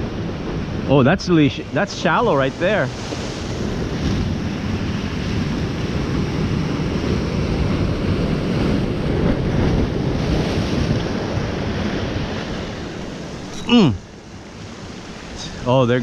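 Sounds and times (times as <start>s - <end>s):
wind buffeting microphone: 0.0s - 15.4s
ocean surf washing in: 0.0s - 16.0s.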